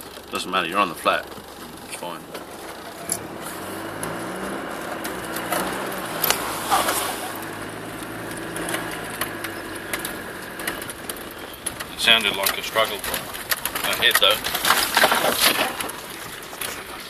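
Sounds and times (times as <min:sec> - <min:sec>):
diesel engine under load: 0:00.0 - 0:17.0
vehicle knocks and rattles: 0:00.0 - 0:17.0.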